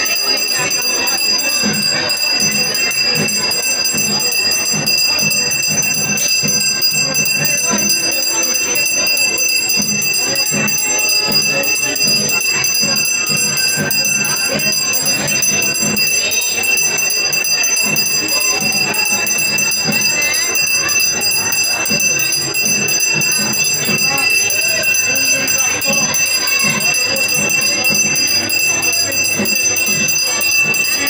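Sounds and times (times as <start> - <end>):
brass hand bell ringing: 0.0 - 31.0.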